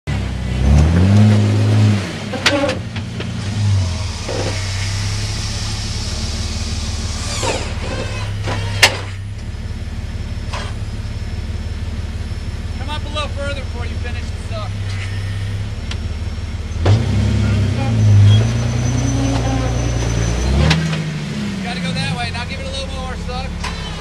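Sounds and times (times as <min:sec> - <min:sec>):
vehicle engine idling: 0:02.1 - 0:24.0.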